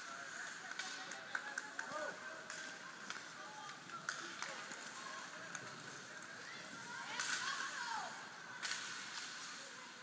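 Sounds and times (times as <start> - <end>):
sticks and skates clicking on ice: 0.0 - 9.7.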